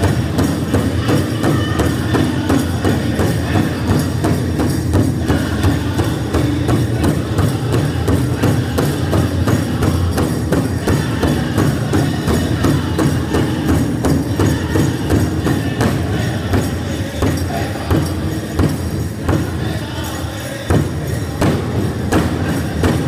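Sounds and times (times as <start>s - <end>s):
group singing: 0.0s - 23.0s.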